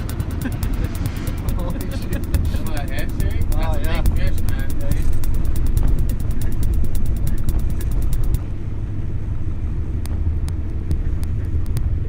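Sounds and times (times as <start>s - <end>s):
boat motor rumble: 0.0s - 12.0s.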